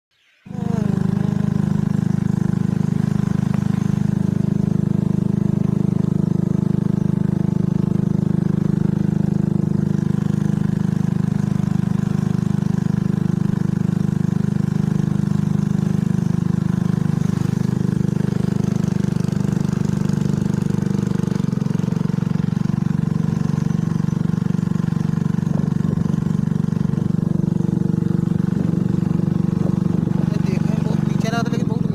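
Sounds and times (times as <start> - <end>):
engine droning: 0.3 - 31.9.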